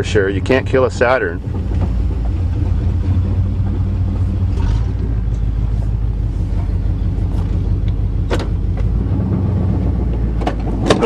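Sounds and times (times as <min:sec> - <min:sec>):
pickup truck engine and road rumble: 0:00.0 - 0:11.0.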